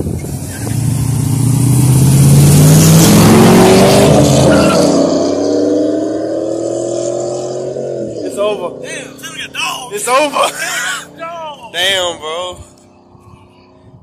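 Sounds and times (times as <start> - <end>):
engines accelerating hard: 0.0 - 14.0.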